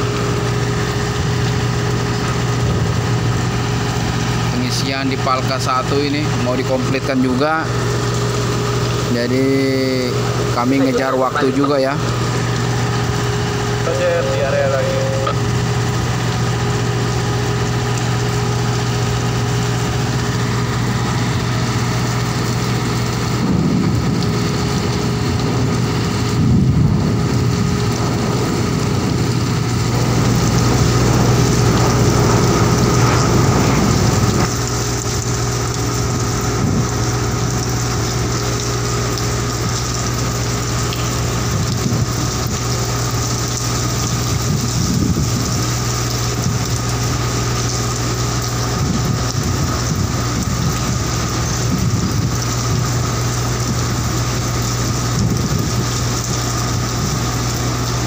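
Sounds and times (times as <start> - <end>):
rain on deck: 0.0 - 58.0
ship engine drone: 0.0 - 58.0.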